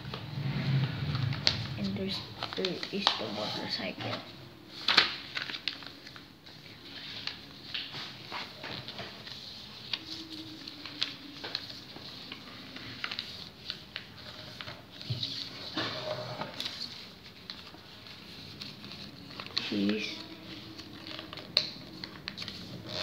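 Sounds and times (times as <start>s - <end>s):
paper rustling and crackling: 1.2s - 23.0s.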